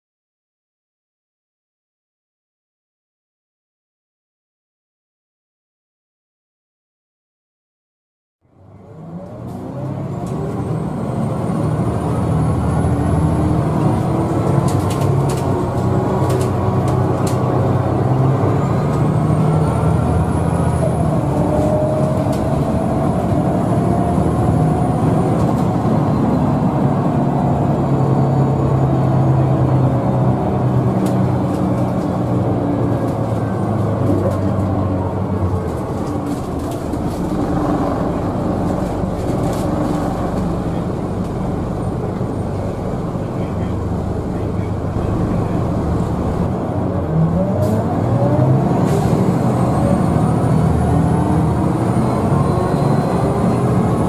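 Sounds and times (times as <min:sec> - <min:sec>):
bus diesel engine: 0:08.4 - 0:54.0.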